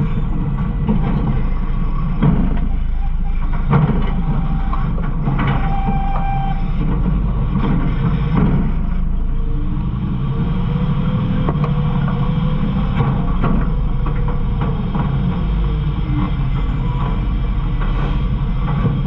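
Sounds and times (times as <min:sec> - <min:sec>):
engine and hydraulic rumble: 0:00.0 - 0:19.0.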